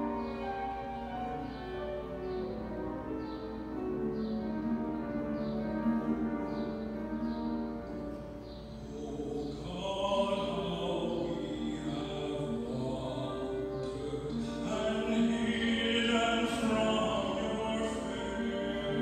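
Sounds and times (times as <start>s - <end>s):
bowed cello: 0.0s - 19.0s
piano: 0.0s - 19.0s
tenor singing a slow hymn: 0.0s - 19.0s.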